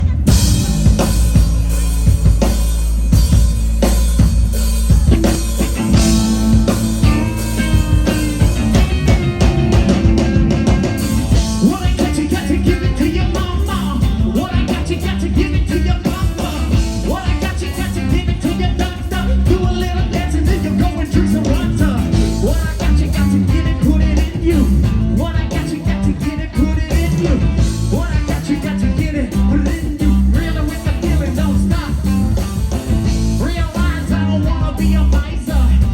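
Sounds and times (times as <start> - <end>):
bass guitar: 0.0 - 35.9
drum kit: 0.0 - 35.9
electric guitar: 0.0 - 35.9
person singing: 5.0 - 32.7, 33.3 - 35.9.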